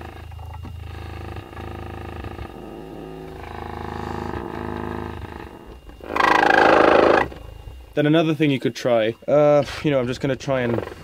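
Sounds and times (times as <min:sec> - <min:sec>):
subwoofer low bass tone buzzing: 0:00.0 - 0:11.0.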